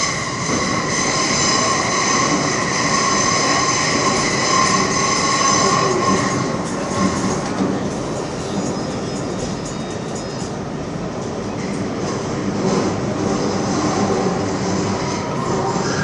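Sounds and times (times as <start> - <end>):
high tones from train wheels: 0.0 - 16.0
metro train rumbling in tunnel: 0.0 - 16.0.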